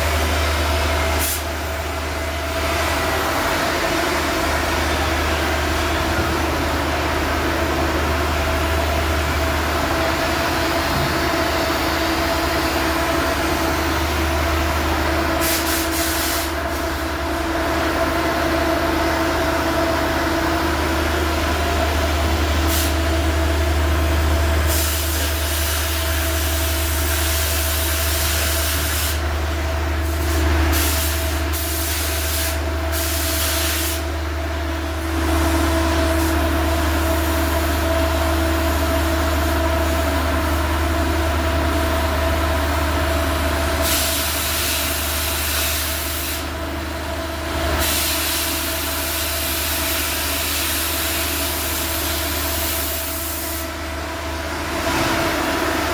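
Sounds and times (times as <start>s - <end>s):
ventilation fan droning: 0.0s - 55.9s.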